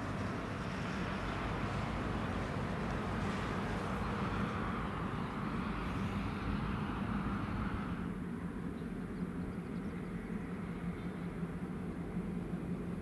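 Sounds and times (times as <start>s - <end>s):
locomotive engines droning: 0.0s - 13.0s.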